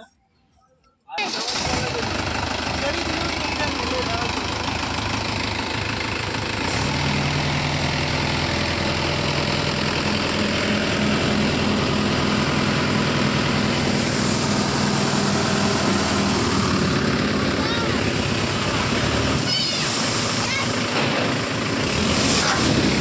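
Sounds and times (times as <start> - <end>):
tractor diesel engine straining: 1.2 - 23.0.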